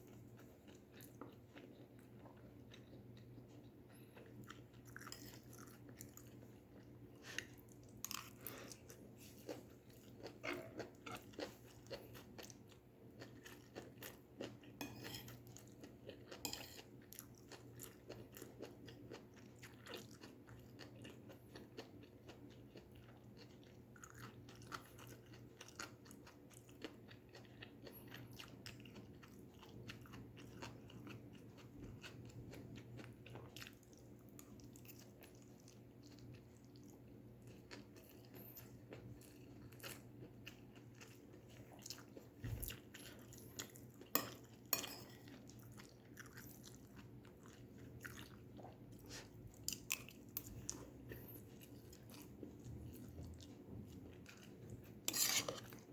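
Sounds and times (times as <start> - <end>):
person chewing crunchy vegetables: 0.0 - 55.9.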